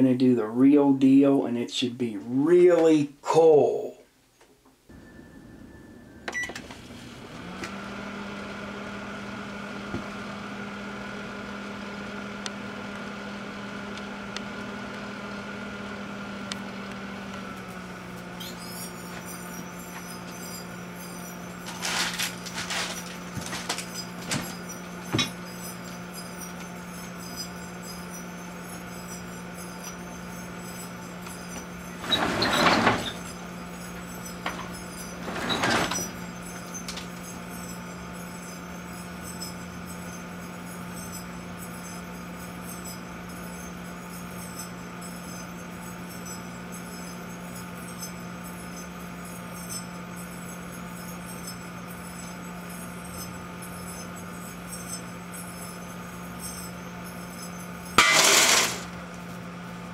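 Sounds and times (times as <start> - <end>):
microwave oven humming: 4.7 - 59.9.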